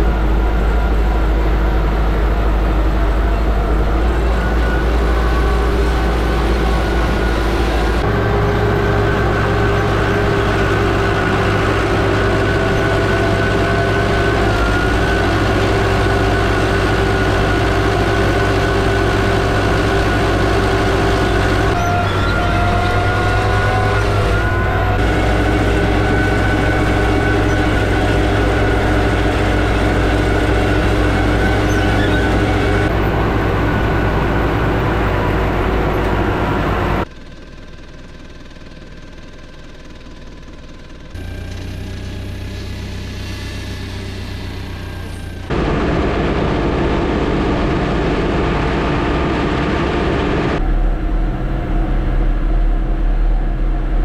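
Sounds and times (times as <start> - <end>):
mower machine whine: 0.0 - 54.0
tractor engine running under load: 0.0 - 54.0.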